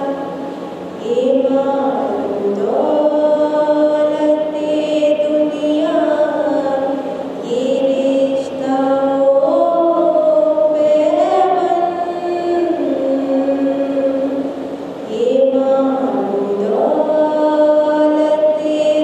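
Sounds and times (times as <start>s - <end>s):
woman singing solo: 0.0s - 19.0s.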